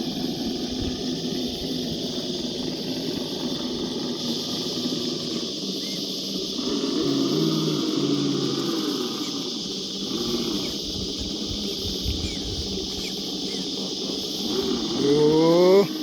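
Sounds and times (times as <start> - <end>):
electric motor whining: 0.0 - 16.0
high insect buzz: 0.0 - 16.0.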